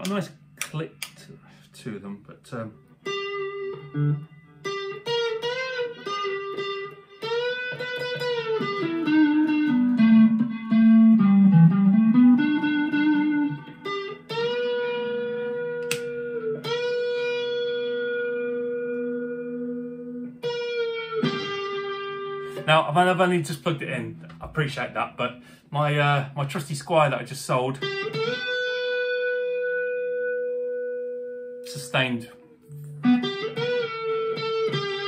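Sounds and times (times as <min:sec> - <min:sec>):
electric guitar lead lines: 0:00.0 - 0:35.0.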